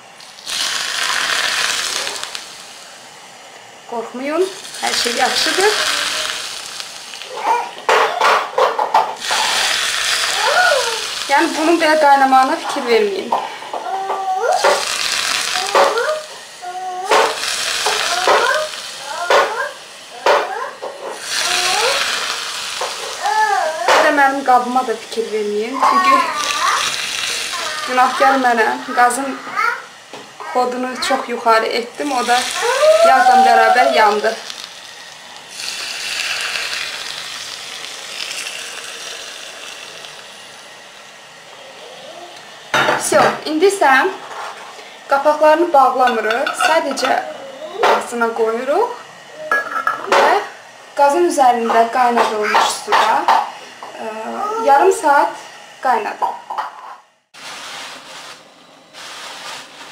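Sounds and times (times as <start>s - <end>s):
hot oil sizzling: 0.0s - 56.7s, 57.4s - 59.9s.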